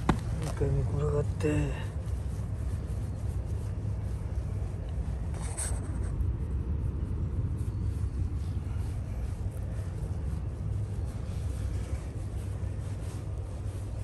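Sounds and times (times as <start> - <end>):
hand rustling cat fur: 0.0 - 14.0
steady low rumble: 0.0 - 14.0.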